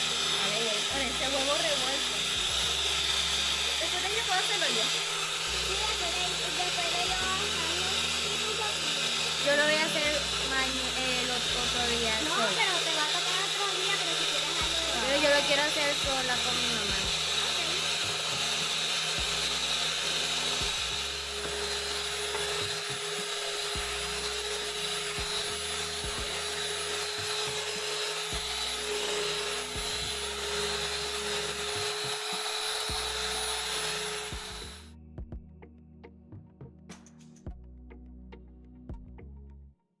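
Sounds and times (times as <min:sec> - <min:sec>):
electric hand mixer whining: 0:00.0 - 0:35.0.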